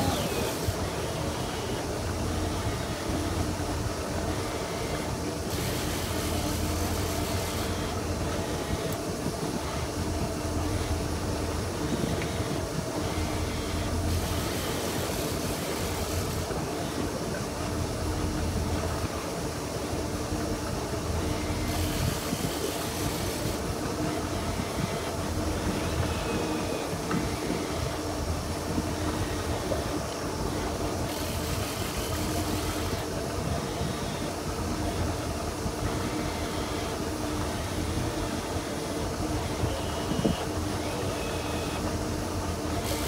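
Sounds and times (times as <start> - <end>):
boat engine droning: 0.0 - 43.0.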